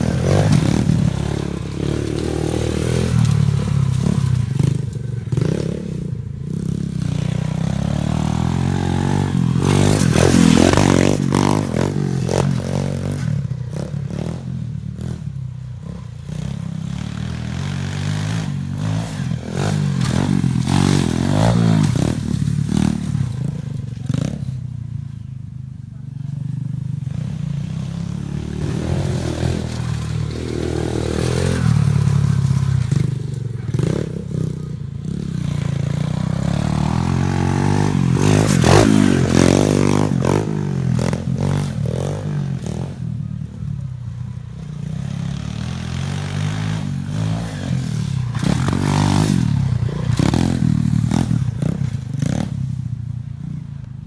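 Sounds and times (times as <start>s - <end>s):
pit bike engine revving: 0.0s - 24.6s, 26.9s - 53.0s.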